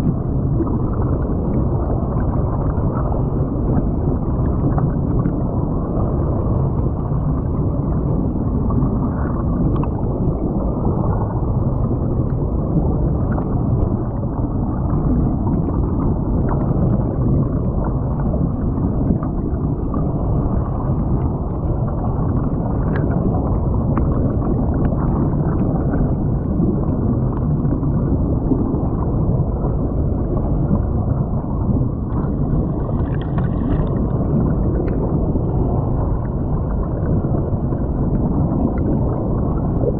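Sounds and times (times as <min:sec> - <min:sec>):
muffled underwater water rushing: 0:00.0 - 0:39.9.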